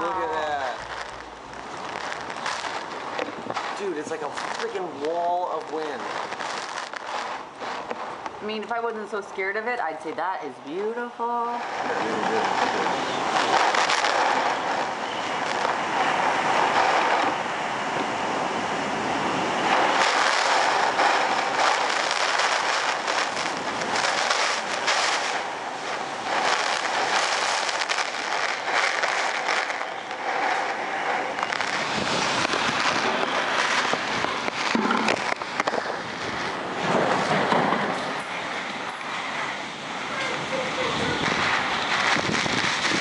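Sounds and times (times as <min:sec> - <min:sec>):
driving rain: 0:00.0 - 0:08.4, 0:11.5 - 0:43.0
wind buffeting the microphone: 0:00.0 - 0:08.8, 0:11.4 - 0:43.0
hurricane wind gusts: 0:00.0 - 0:43.0.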